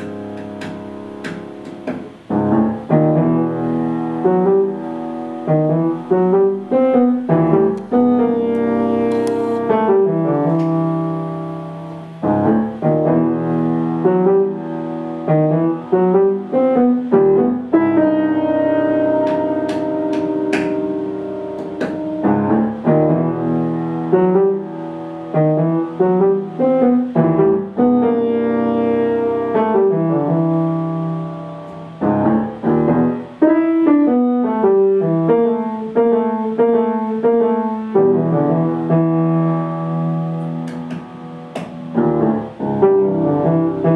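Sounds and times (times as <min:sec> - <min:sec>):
solo piano music: 0:00.0 - 0:43.9.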